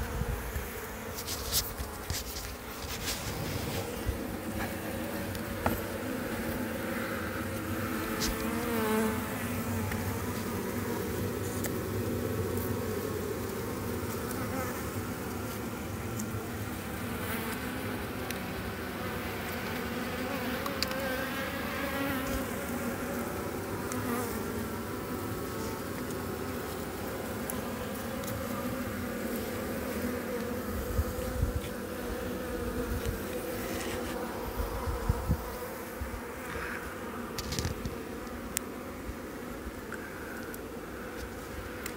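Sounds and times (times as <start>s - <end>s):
bee colony buzzing: 0.0s - 41.9s
single bee whining past: 0.0s - 41.9s.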